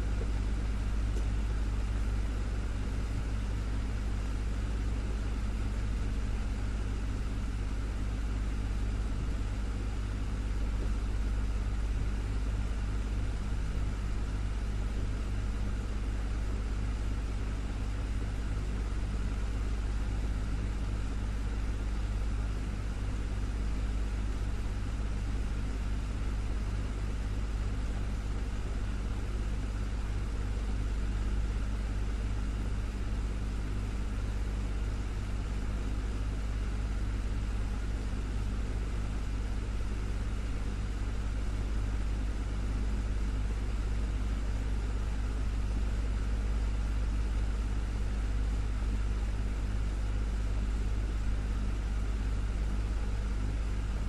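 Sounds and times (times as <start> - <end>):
desktop fan running: 0.0 - 54.0.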